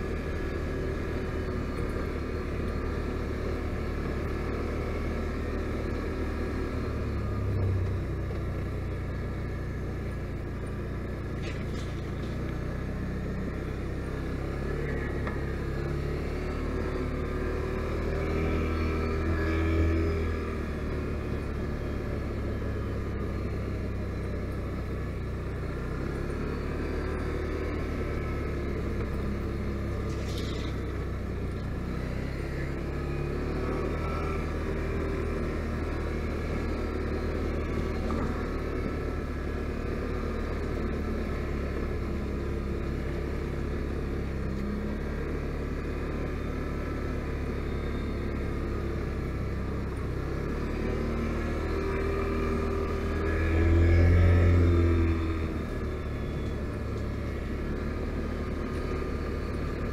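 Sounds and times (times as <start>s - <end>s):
atv engine droning: 0.0s - 59.9s.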